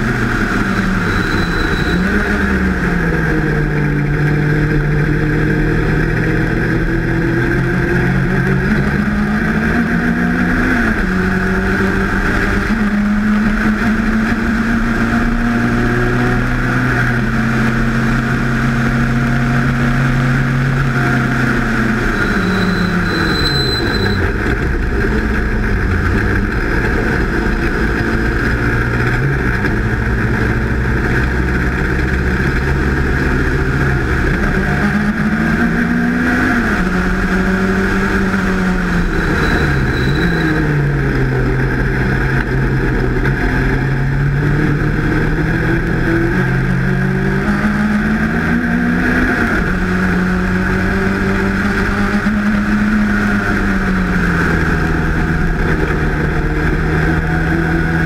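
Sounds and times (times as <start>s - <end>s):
race car engine at high revs: 0.0s - 58.0s
wind and road noise: 0.0s - 58.0s.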